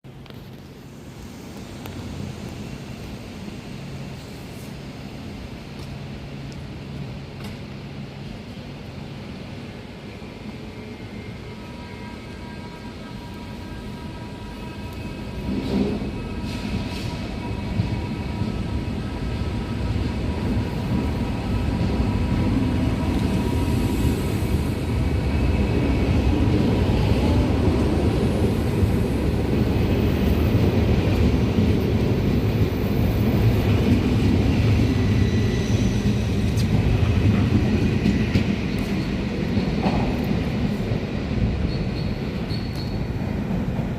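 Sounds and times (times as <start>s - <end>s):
electric train rumble and wheel noise: 0.0s - 43.9s.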